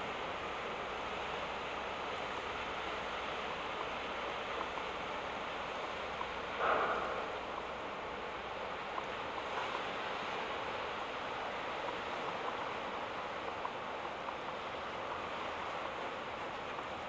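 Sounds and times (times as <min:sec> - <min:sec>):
water rushing from ship wash: 0:00.0 - 0:17.0.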